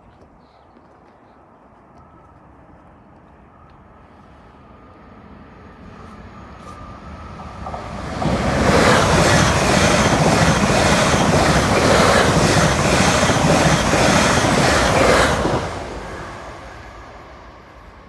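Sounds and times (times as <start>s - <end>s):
electric train passing at speed: 2.0s - 18.0s.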